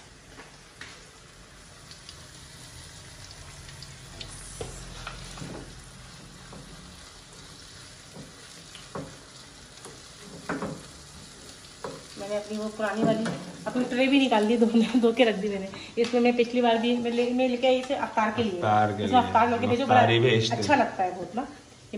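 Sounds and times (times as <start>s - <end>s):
food sizzling in a frying pan: 0.0s - 21.9s.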